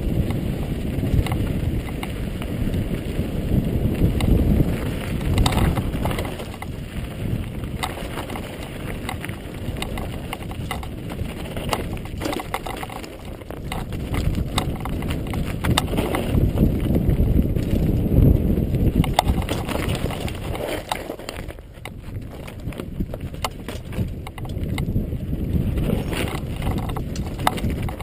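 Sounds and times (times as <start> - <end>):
mountain bike rattling over rocks: 0.0 - 28.0
wind rumble on microphone: 0.0 - 28.0.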